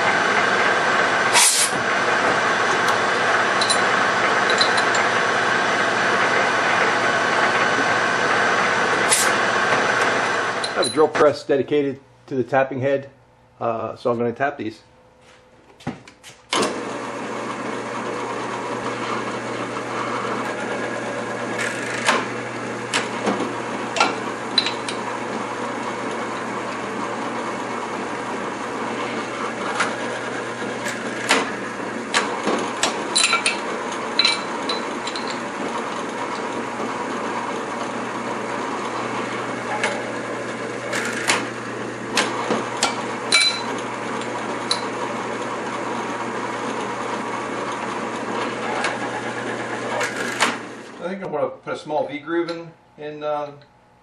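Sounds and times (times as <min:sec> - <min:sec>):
drill press running: 0:00.0 - 0:11.3, 0:16.3 - 0:51.2.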